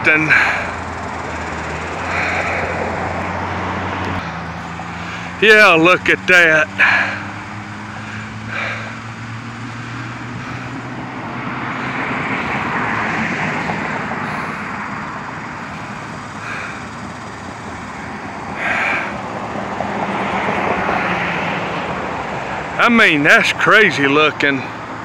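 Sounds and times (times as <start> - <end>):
low engine hum: 0.0 - 25.0
tyre noise from passing vehicle: 0.0 - 25.0.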